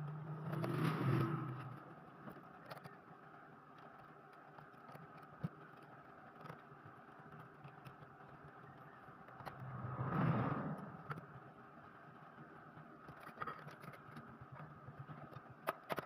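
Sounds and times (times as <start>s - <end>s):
faint clicks: 0.0s - 16.0s
steady background hum: 0.0s - 16.0s.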